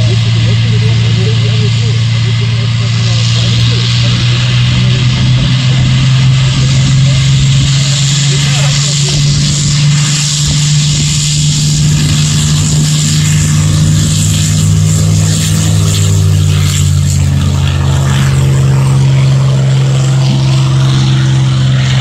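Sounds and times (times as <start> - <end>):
propeller plane engine taxiing: 0.0 - 22.0.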